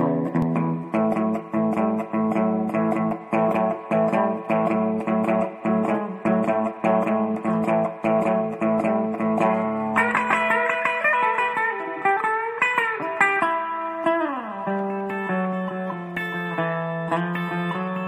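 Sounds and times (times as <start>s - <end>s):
plucked guitar music: 0.0s - 18.0s.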